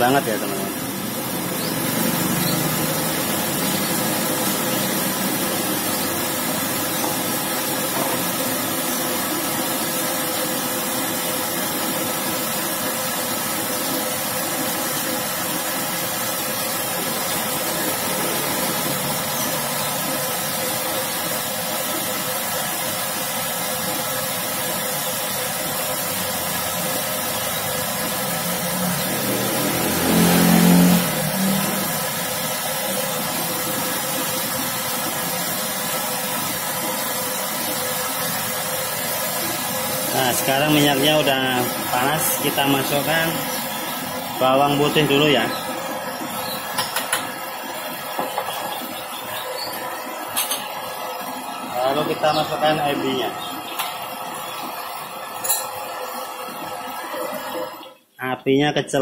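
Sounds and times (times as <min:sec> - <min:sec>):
gas burner rushing: 0:00.0 - 0:57.9.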